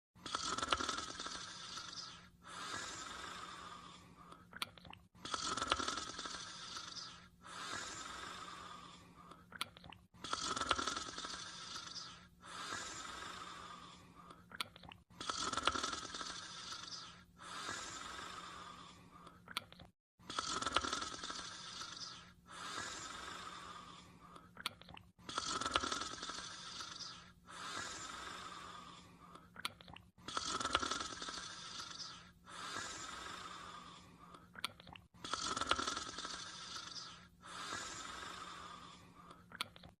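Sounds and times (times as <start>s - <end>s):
cartoon snoring: 0.2s - 4.3s, 5.2s - 9.1s, 10.2s - 14.3s, 15.1s - 19.1s, 20.2s - 24.4s, 25.2s - 29.1s, 30.2s - 34.4s, 35.2s - 39.4s.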